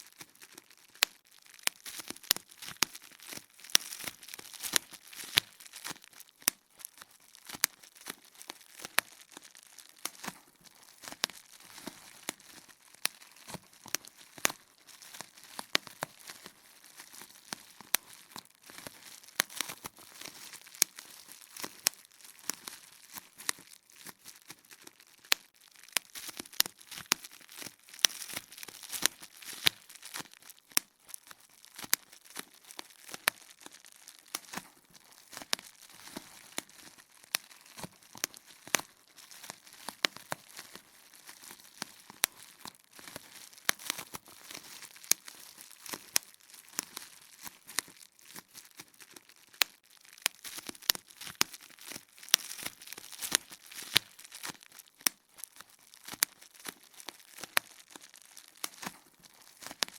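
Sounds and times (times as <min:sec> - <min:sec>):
bubble wrap popping: 0:00.0 - 0:59.9
plastic sheet crinkling: 0:00.0 - 0:59.9.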